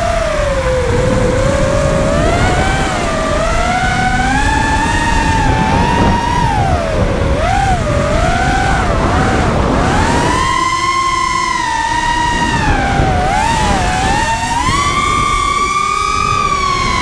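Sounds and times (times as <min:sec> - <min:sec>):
quadcopter motors whining: 0:00.0 - 0:17.0
wind rumble: 0:00.0 - 0:17.0.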